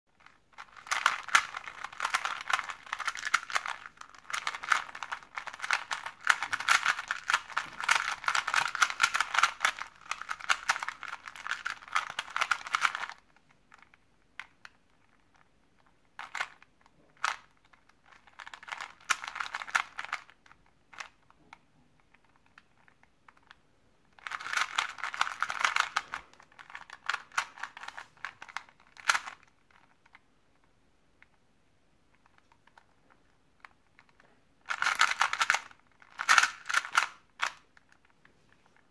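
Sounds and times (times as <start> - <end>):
puzzle cube clicking as turned: 0.2 - 21.4, 22.0 - 23.6, 24.2 - 31.4, 32.1 - 38.8.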